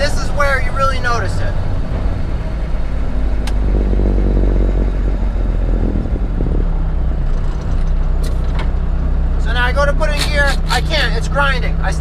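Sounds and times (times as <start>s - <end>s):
truck engine drone from cab: 0.0s - 12.0s.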